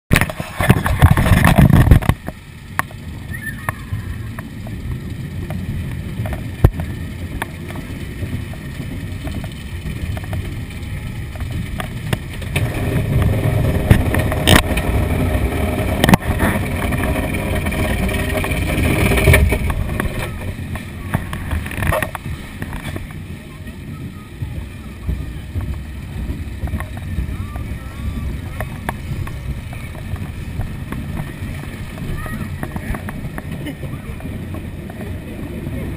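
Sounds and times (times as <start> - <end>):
roller coaster car rumbling: 0.1 - 35.9.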